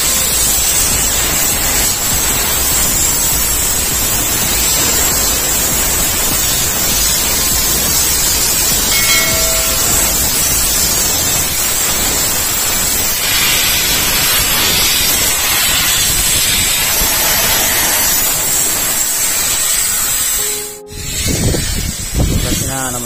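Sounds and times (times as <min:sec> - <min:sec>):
high-pressure spray gun hissing: 0:00.0 - 0:22.5.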